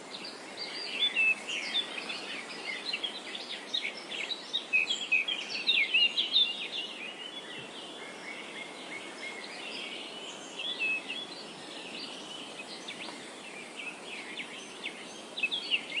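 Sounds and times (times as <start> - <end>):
small birds chirping: 0.0 - 16.0
steady background hiss: 0.0 - 16.0.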